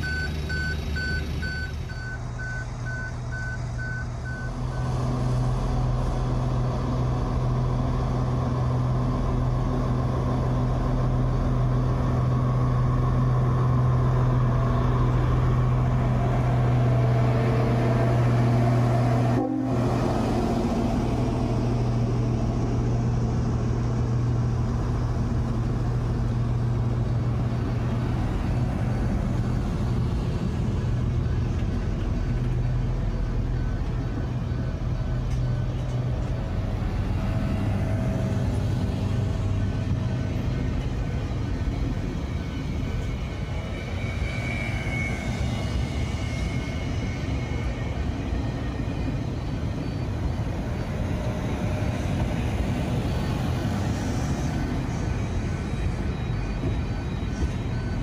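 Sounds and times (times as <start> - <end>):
train rolling past: 0.0 - 58.0.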